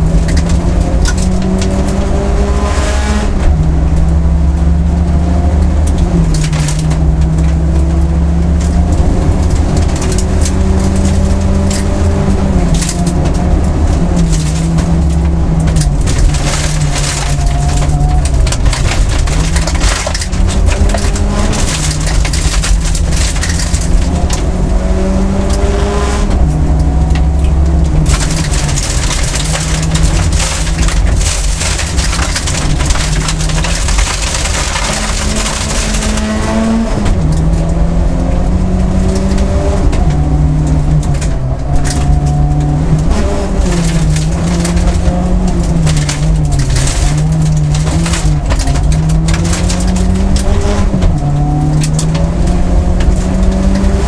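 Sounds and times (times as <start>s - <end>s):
gravel noise from tyres: 0.0s - 54.0s
rally car engine revving: 0.0s - 54.0s.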